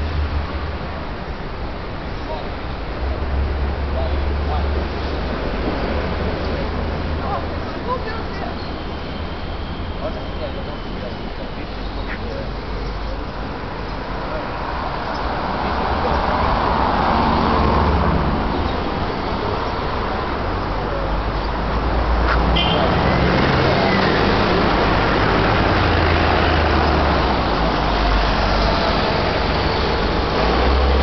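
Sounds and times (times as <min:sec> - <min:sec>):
city street traffic: 0:00.0 - 0:31.0.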